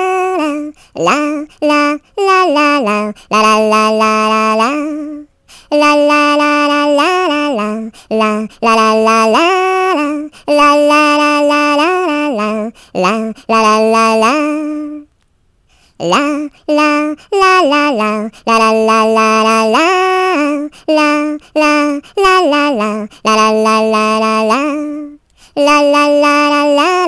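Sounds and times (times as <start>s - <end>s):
high voice singing la la: 0.0s - 15.2s, 15.8s - 27.0s.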